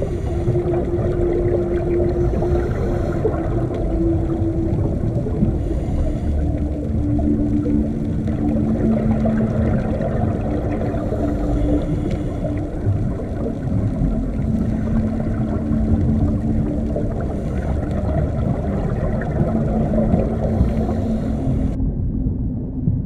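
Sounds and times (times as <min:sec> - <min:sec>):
faint crackle: 0:00.0 - 0:21.8
low two-note hum: 0:00.0 - 0:23.0
underwater rumble of water: 0:00.0 - 0:23.0.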